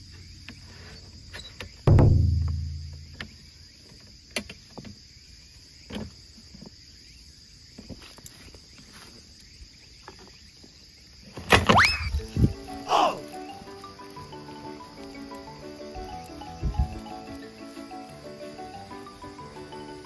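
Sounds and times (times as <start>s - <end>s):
insects trilling in grass: 0.0s - 20.0s.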